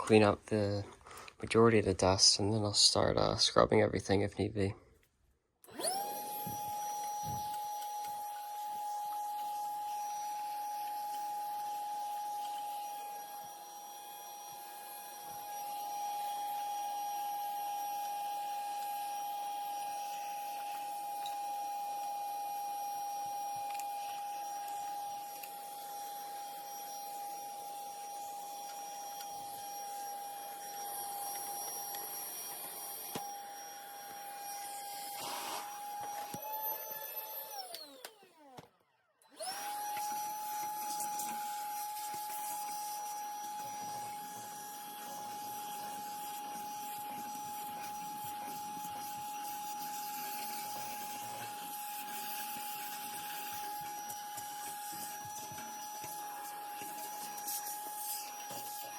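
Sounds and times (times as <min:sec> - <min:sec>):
cordless vacuum motor whine: 0:05.6 - 0:58.9.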